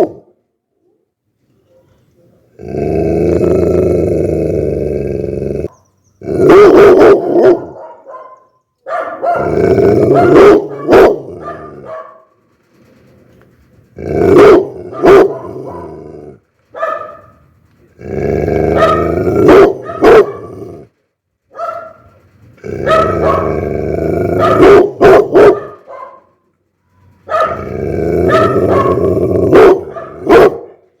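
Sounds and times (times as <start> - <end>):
dog growling and barking: 0.0 - 0.3, 2.5 - 8.2, 8.9 - 12.3, 13.9 - 21.0, 21.6 - 26.3, 27.2 - 30.9.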